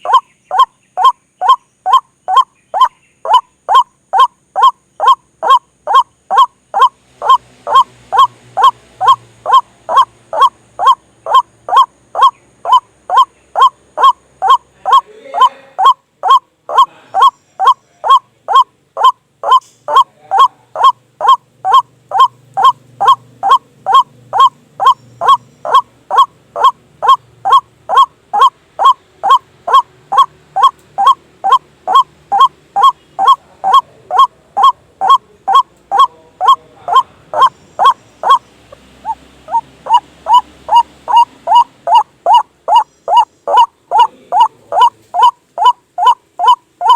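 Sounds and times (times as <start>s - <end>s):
waterhen honking calls: 0.0s - 46.9s.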